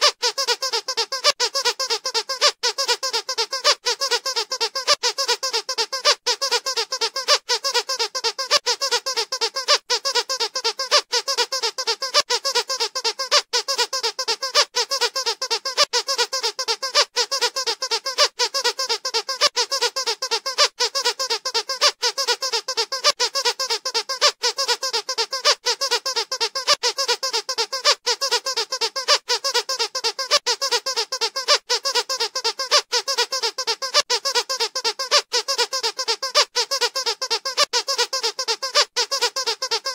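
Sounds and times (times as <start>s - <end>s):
squeaky dog toy squeaks: 0.0s - 39.9s.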